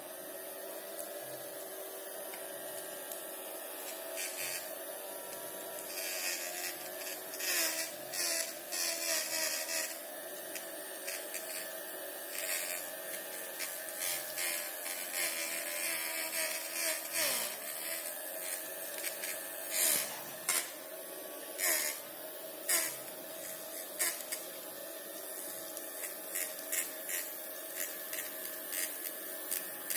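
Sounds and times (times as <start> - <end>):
small motor buzzing whine: 0.0 - 29.9.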